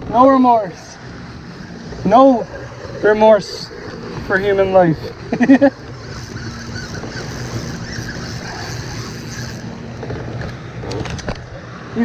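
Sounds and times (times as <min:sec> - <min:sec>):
powerboat engine drone: 0:00.0 - 0:12.0.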